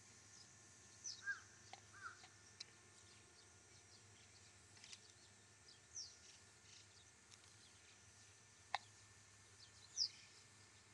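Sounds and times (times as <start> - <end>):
faint high bird chirps: 0.3 - 2.3, 3.0 - 8.0, 8.8 - 10.9.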